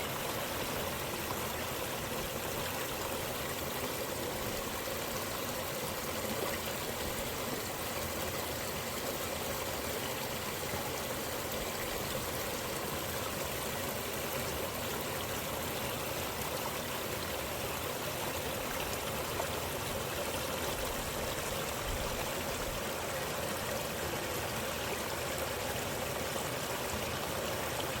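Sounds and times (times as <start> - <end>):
rushing running water: 0.0 - 28.0.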